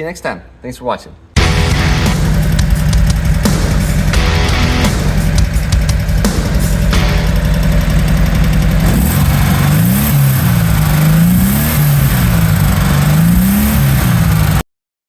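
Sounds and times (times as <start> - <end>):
car engine running and revving: 1.4 - 14.6.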